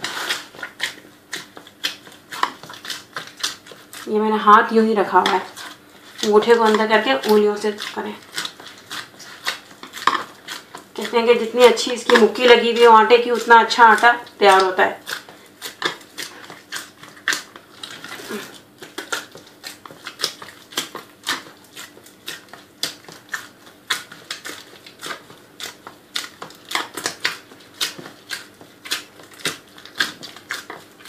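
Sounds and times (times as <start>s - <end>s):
dough being kneaded and punched: 0.0s - 31.0s.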